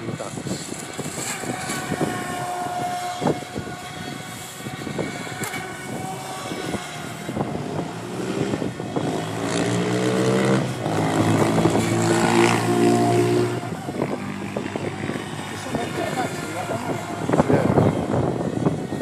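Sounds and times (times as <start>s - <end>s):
propeller churning water: 0.0s - 19.0s
rc speedboat motor whine: 0.0s - 19.0s.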